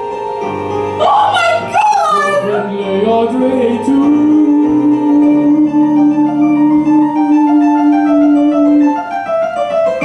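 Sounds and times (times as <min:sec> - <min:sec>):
keyboard chords over held note: 0:00.0 - 0:10.0.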